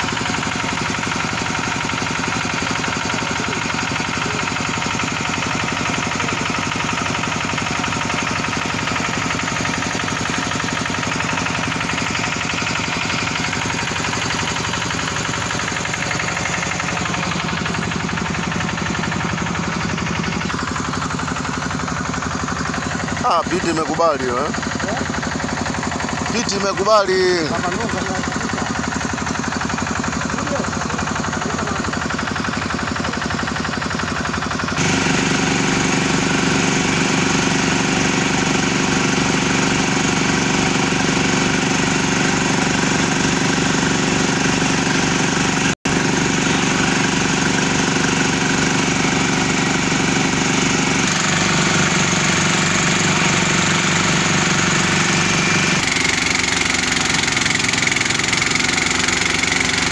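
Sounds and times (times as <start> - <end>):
drilling rig engine running: 0.0 - 59.9
mud pump running: 0.0 - 59.9.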